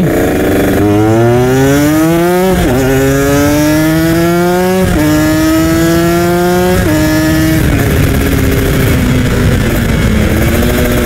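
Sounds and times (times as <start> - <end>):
motorcycle engine shifting up: 0.0 - 11.0
wind noise on microphone: 0.0 - 11.0.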